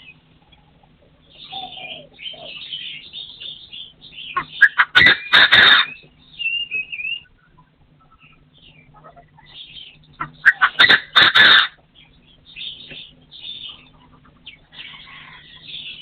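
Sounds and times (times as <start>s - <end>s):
partridge calling: 0.0s - 16.0s.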